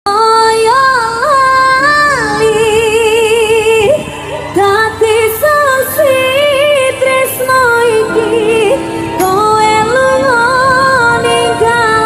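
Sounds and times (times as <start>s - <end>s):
music: 0.1s - 12.0s
woman singing with vibrato: 0.1s - 12.0s.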